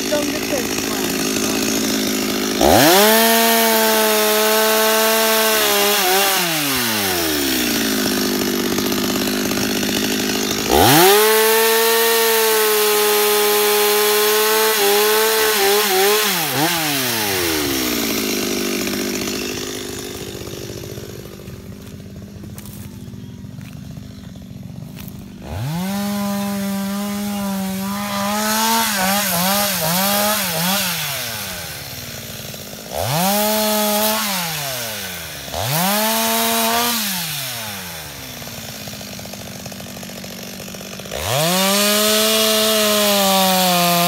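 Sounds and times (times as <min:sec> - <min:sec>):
chainsaw revving and cutting: 0:00.0 - 0:44.0.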